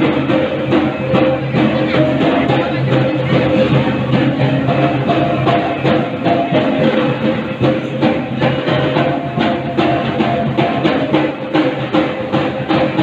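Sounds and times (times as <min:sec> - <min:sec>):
music with steady drum beat: 0:00.0 - 0:13.0.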